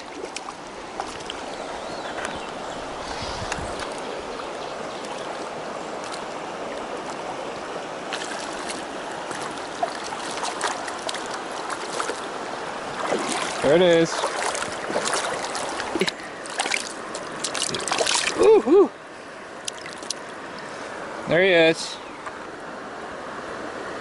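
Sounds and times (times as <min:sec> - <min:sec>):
light water splashes: 0:00.0 - 0:21.2
stream flowing over rocks: 0:00.0 - 0:24.0.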